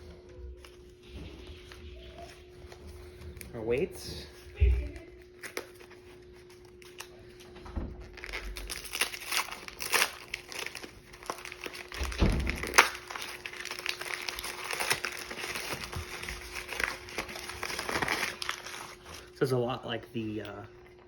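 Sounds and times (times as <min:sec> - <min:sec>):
packing material crinkling: 0:00.4 - 0:19.6.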